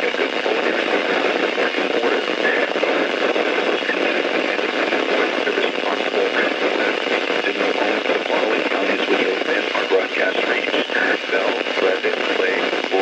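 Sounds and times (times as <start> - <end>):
faint voice on radio: 0.0 - 13.0
radio static hiss: 0.0 - 13.0.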